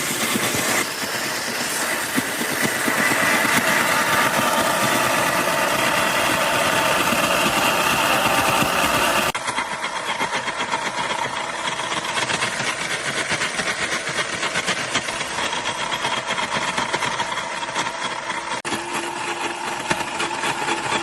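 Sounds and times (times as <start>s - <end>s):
ice shaver grinding ice: 0.0s - 21.0s.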